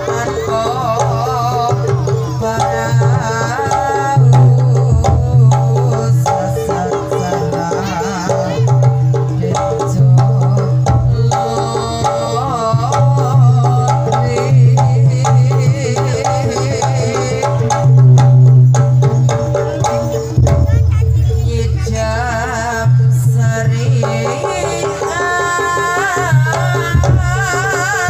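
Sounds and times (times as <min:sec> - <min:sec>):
hand drums beating: 0:00.0 - 0:28.0.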